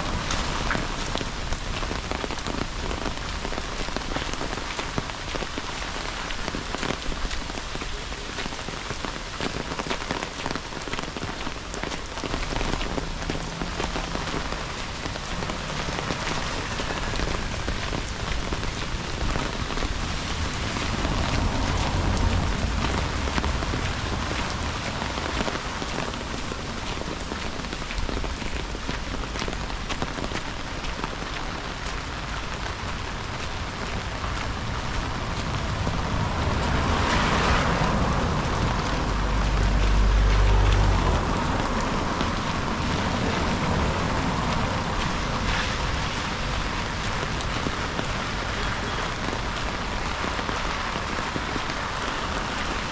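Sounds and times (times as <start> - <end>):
rain pattering: 0.0 - 52.9.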